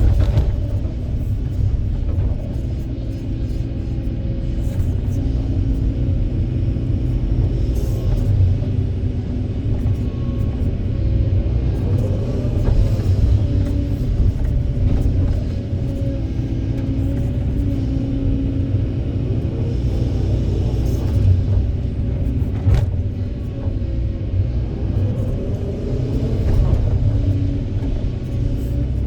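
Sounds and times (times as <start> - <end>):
excavator diesel engine rumbling: 0.0 - 29.0
hydraulic whine: 0.0 - 29.0.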